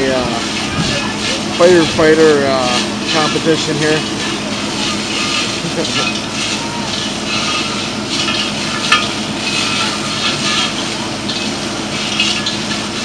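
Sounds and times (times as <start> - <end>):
fire engine pump hum: 0.0 - 13.0
fire hoses spraying: 0.0 - 13.0.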